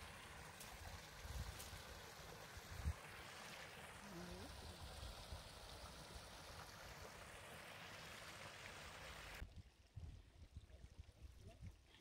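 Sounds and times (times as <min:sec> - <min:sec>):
brook trickling over rocks: 0:00.0 - 0:12.0.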